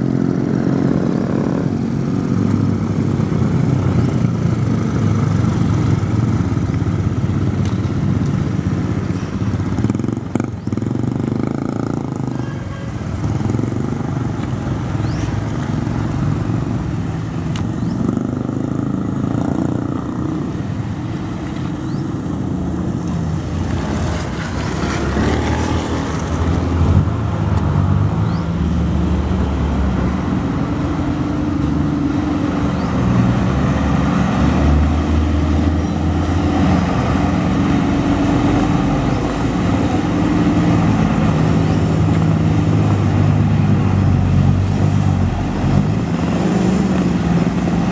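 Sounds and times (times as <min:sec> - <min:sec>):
truck engine running: 0:00.0 - 0:27.8, 0:29.1 - 0:47.9.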